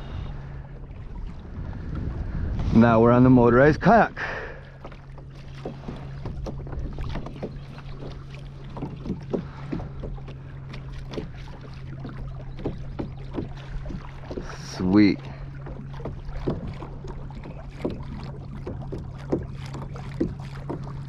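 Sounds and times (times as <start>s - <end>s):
water splashing against hull: 0.0s - 21.0s.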